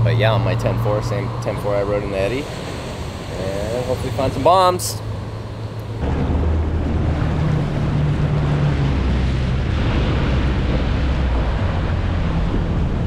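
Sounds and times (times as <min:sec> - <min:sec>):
jet ski engine droning: 0:00.0 - 0:13.0
water rushing around hull: 0:00.0 - 0:13.0
wind buffeting microphone: 0:00.0 - 0:13.0.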